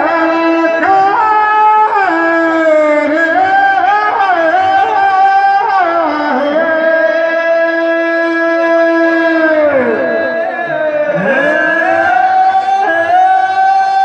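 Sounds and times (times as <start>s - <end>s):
man singing folk song amplified: 0.0s - 14.0s.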